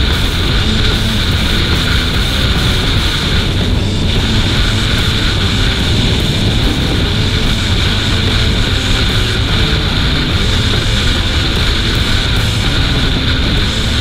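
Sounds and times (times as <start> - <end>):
motorcycle engine and wind rumble: 0.0 - 14.0.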